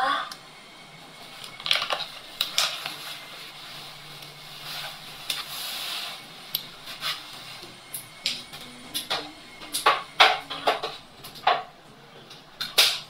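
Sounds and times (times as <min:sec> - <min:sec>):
hiss: 0:00.0 - 0:10.8.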